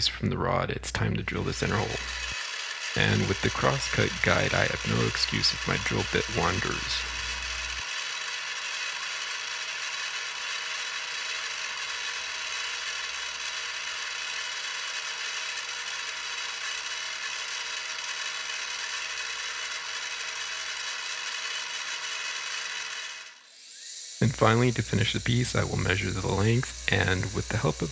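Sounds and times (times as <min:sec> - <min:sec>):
mill drilling brass: 0:01.2 - 0:27.9.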